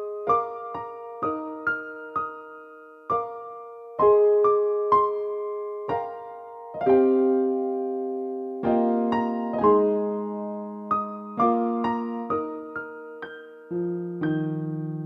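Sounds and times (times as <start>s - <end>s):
gentle solo piano: 0.0s - 15.0s.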